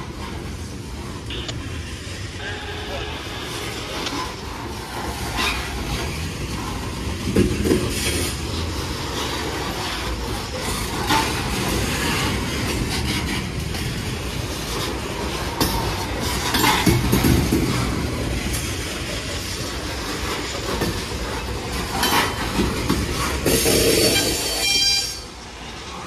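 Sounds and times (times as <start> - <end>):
steel wheels rumbling on rail: 0.0 - 26.0
wheels clacking over rail joints: 0.0 - 26.0.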